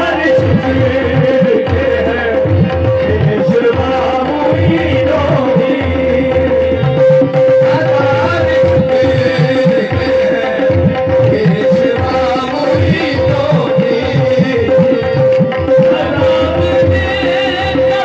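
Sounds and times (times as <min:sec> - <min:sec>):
harmonium holding a note: 0:00.0 - 0:18.0
tabla playing fast rhythm: 0:00.0 - 0:18.0.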